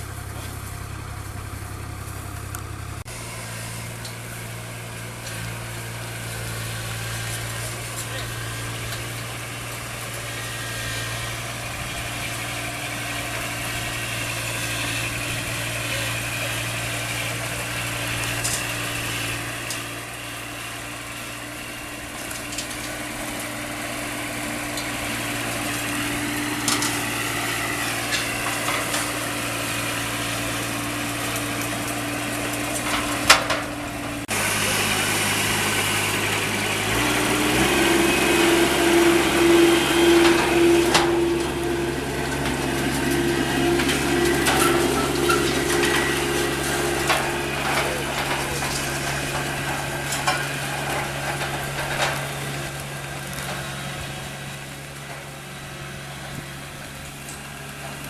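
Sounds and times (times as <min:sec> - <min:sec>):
combine harvester engine running: 0:00.0 - 0:58.0.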